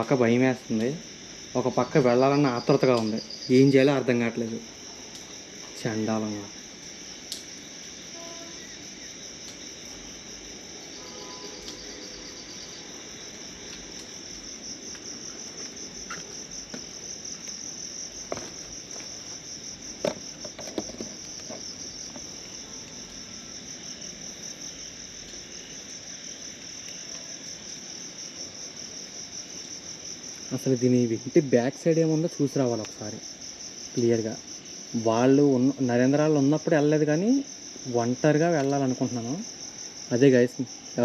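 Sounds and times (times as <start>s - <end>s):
crickets chirring: 0.0s - 41.0s.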